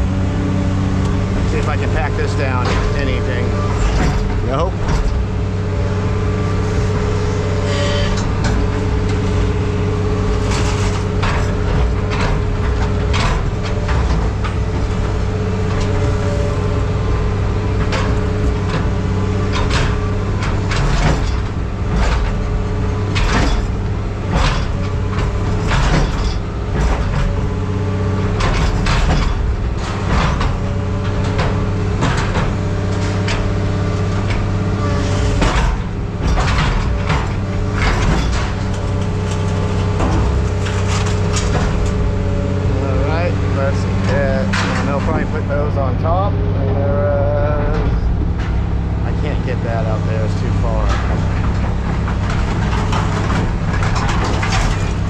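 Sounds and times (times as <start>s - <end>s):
metal clanks and knocks: 0.0s - 46.8s, 47.6s - 55.0s
heavy machinery running: 0.0s - 55.0s.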